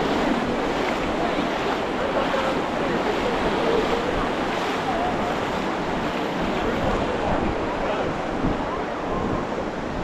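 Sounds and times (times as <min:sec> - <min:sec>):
surf washing onto beach: 0:00.0 - 0:10.0
wind buffeting microphone: 0:00.0 - 0:10.0.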